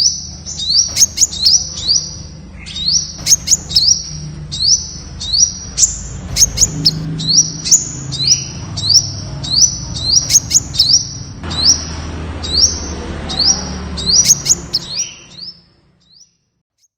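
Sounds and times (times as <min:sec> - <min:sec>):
very high bird ticks: 0:00.0 - 0:15.6
bird calling high notes: 0:00.0 - 0:16.3.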